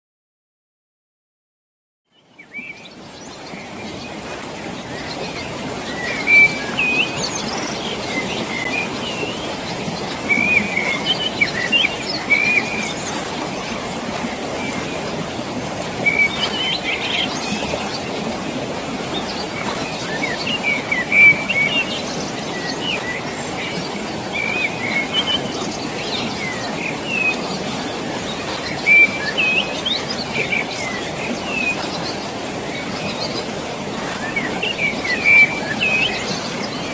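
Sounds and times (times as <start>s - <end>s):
birds chirping: 2.1s - 36.9s
running water rushing: 2.2s - 36.9s.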